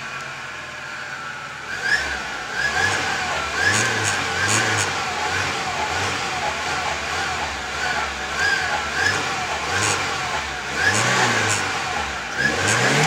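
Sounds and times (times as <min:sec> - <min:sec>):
car engine revving with whine: 0:00.0 - 0:13.0.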